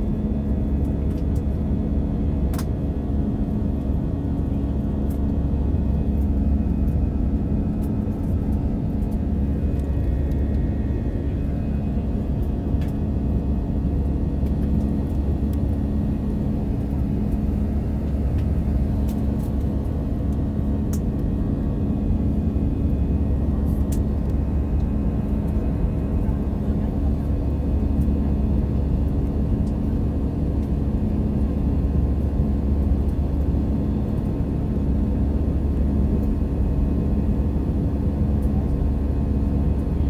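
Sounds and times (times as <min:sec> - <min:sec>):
airplane cabin roar: 0:00.0 - 0:40.0
steady hum: 0:00.0 - 0:40.0.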